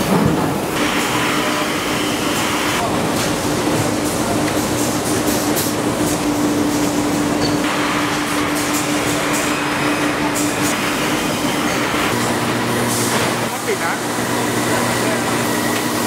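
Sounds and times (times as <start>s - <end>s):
factory machinery hum: 0.0s - 16.0s.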